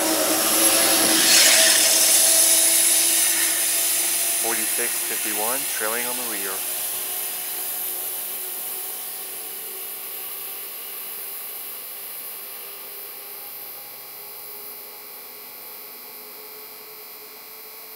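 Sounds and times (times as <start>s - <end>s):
electric train hiss and whine: 0.0s - 14.4s.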